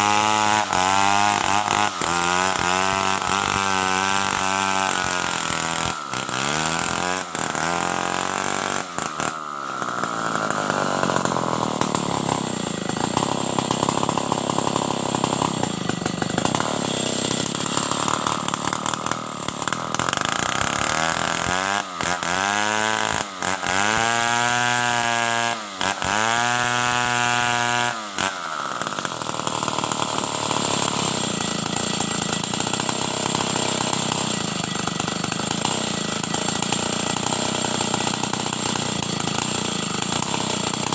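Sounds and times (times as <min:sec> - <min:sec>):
chainsaw sawing wood: 0:00.0 - 0:40.9.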